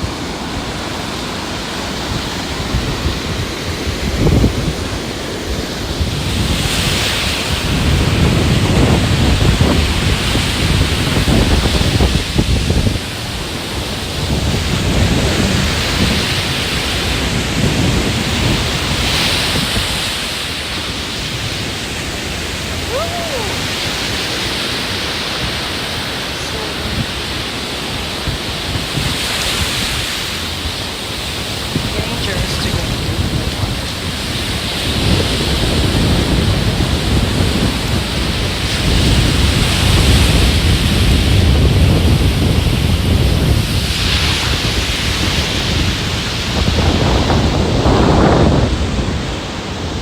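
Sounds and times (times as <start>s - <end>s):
ocean surf washing in: 0.0s - 50.0s
wind rumbling on microphone: 0.0s - 50.0s.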